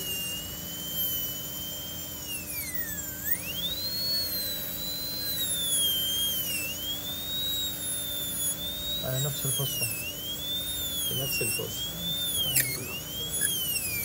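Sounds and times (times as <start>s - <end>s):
dental drill whining: 0.0s - 14.0s.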